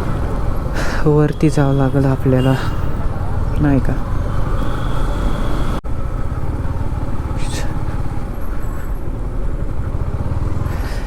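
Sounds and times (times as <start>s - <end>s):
wind and road noise: 0.0s - 11.0s
motorcycle engine running: 1.8s - 11.0s.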